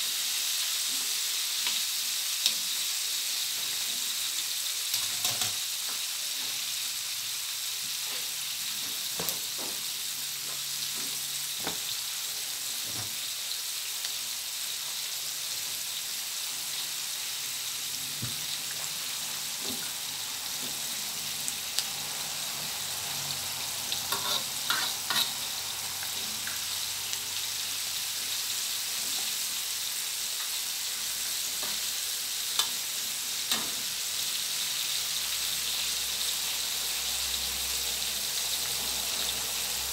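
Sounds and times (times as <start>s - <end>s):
chicken wings sizzling in hot oil: 0.0s - 39.9s
sharp clicks of frying oil: 0.2s - 16.2s, 16.8s - 39.9s.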